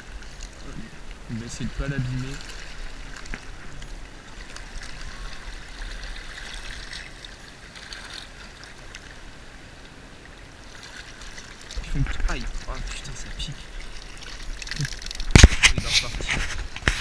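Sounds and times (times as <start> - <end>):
sea water lapping over rocks: 0.0 - 17.0
small water splashes: 0.0 - 17.0.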